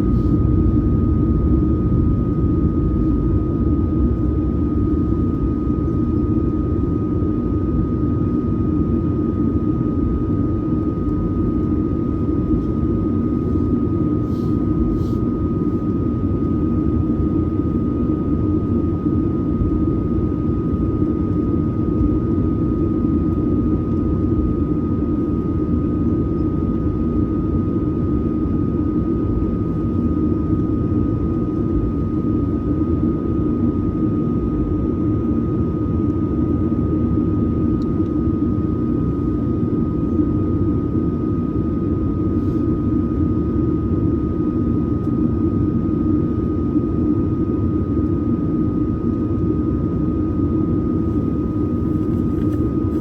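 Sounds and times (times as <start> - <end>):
jet engines droning in cabin: 0.0 - 53.0.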